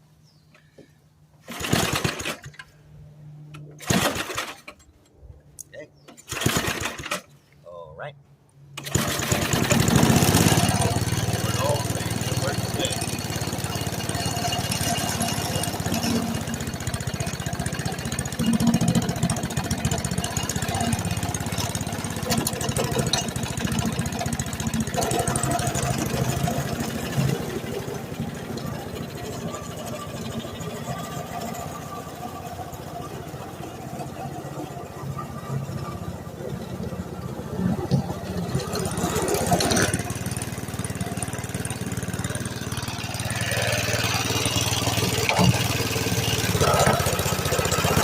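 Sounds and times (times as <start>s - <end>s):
small engine running: 1.4s - 4.8s, 6.2s - 7.3s, 8.7s - 48.0s.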